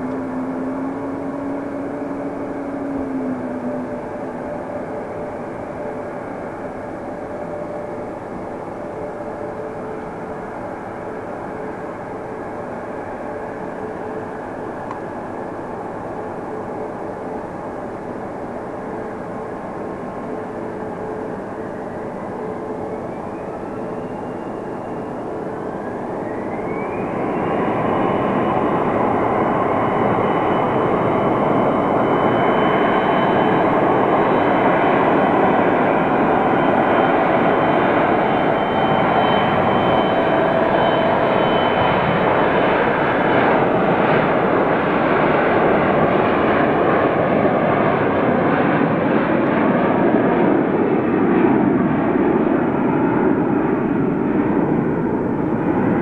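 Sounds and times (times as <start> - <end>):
jet roar: 0.0 - 8.0, 18.9 - 56.0
jet engine whine: 0.0 - 56.0.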